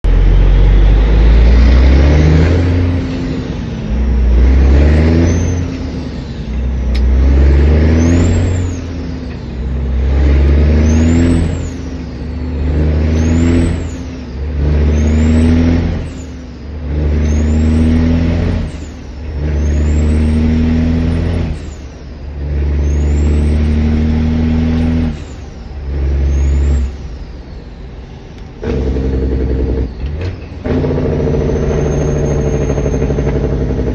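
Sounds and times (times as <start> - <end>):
diesel truck engine pulling hard: 0.0 - 33.9.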